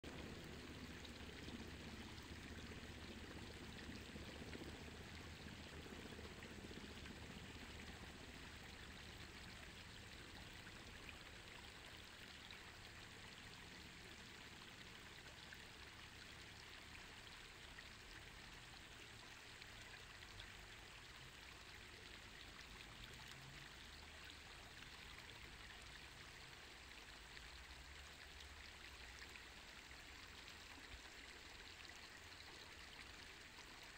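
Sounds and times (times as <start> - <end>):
stream water trickling: 0.0 - 33.9.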